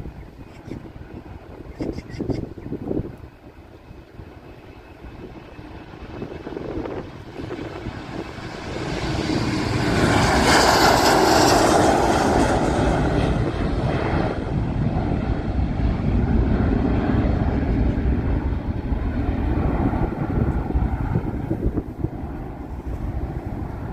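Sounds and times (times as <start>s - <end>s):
jet airliner passing: 0.0s - 23.9s.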